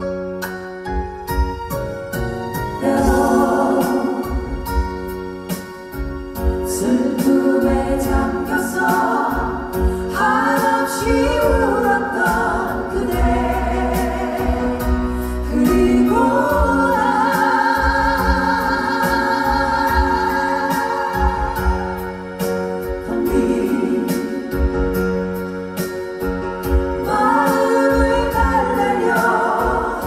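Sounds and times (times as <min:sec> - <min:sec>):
band with drums and bass: 0:00.0 - 0:30.0
women singing in harmony: 0:02.8 - 0:05.1, 0:06.4 - 0:25.0, 0:26.6 - 0:30.0.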